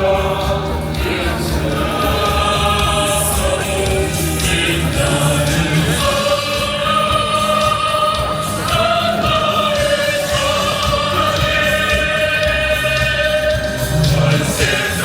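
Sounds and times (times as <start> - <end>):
choir singing long notes: 0.0 - 15.0.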